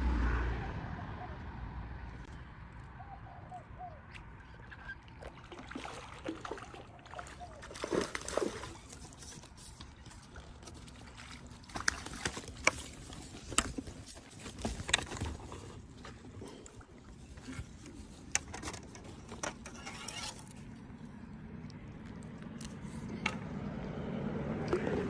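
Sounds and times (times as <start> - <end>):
water sloshing and splashing: 4.0 - 25.0.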